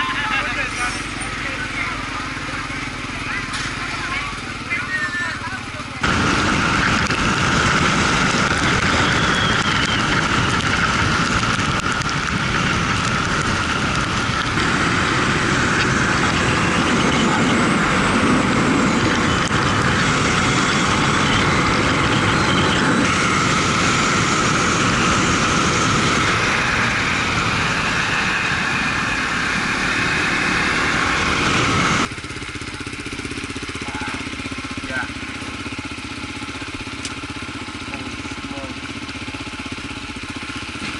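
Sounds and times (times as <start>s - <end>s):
motorbike engine: 0.0s - 40.9s
wind and road noise: 0.0s - 40.9s.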